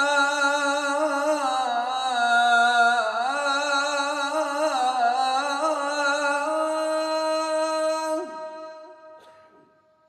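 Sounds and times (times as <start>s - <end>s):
man chanting call to prayer: 0.0s - 9.2s.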